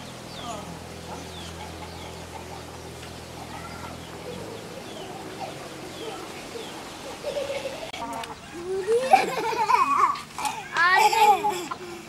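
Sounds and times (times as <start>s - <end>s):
birds cooing: 0.0s - 11.9s
birds chirping: 0.0s - 12.0s
low steady hum: 0.0s - 12.0s.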